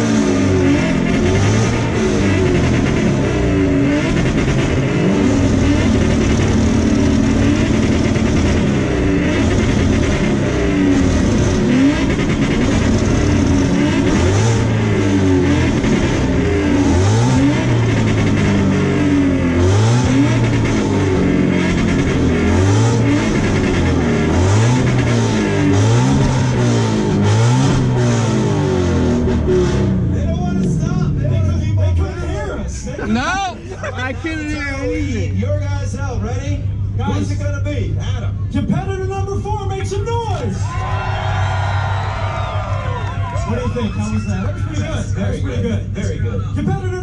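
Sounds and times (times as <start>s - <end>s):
car engines revving: 0.0s - 47.0s.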